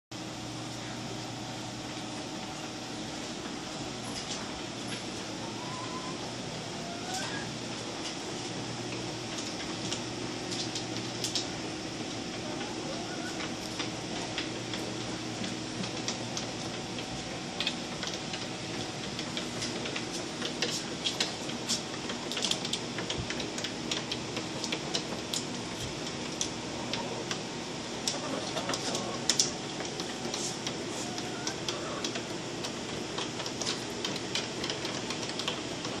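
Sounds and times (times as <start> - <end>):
steady low hum: 0.2 - 36.0
chickens moving about: 4.0 - 27.3, 28.0 - 35.7.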